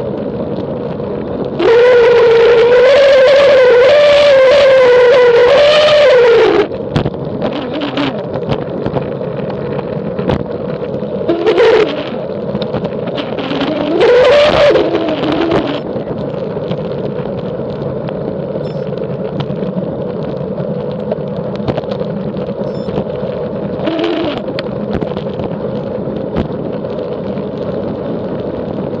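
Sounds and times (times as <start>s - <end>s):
constant hum: 0.0s - 29.0s
wind and tyre rush: 0.0s - 29.0s.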